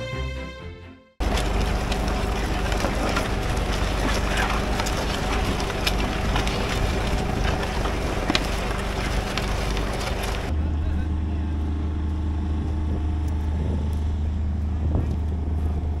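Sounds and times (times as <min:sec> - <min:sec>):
tractor engine running: 0:01.2 - 0:16.0
wind rumble on microphone: 0:01.2 - 0:16.0.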